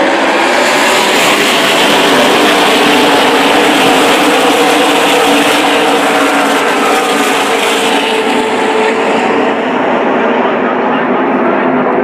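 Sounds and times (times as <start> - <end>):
roar of many racing engines: 0.0 - 12.0.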